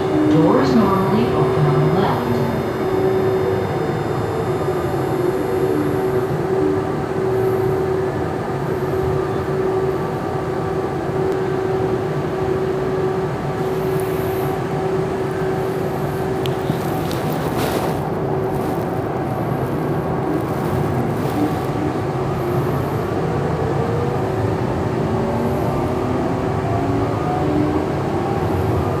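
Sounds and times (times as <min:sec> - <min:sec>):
traction drive whine: 0:00.0 - 0:29.0
wheel and track rumble: 0:00.0 - 0:29.0.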